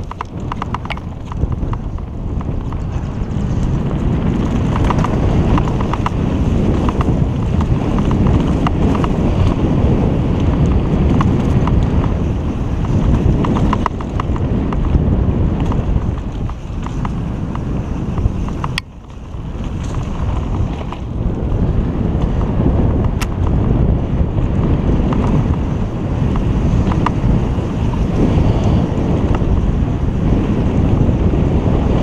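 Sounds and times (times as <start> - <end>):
bike clicking and rattling: 0.0 - 32.0
tyres rumbling over dirt: 0.0 - 32.0
wind buffeting microphone: 0.0 - 32.0.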